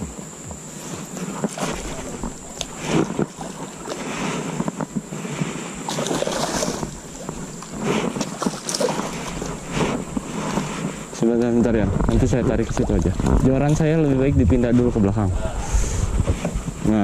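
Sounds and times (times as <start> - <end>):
water splashing around a boat: 0.0 - 14.4
faint high-pitched whine: 0.0 - 17.0
wind buffeting microphone: 0.0 - 17.0.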